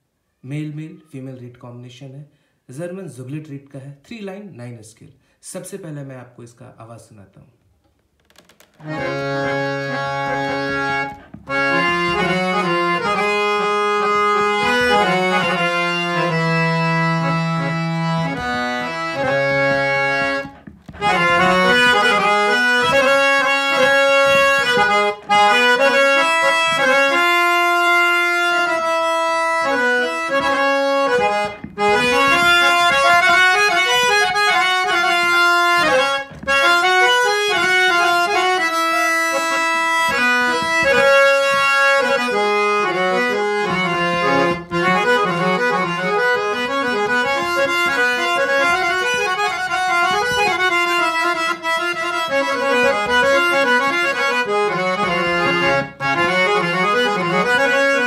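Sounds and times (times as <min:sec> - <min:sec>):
harmonium melody: 0:07.8 - 0:58.0.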